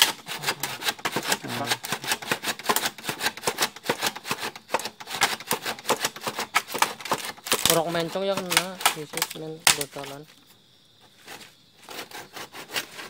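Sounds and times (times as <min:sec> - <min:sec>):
hand saw cutting bamboo: 0:00.0 - 0:10.2, 0:11.2 - 0:13.0.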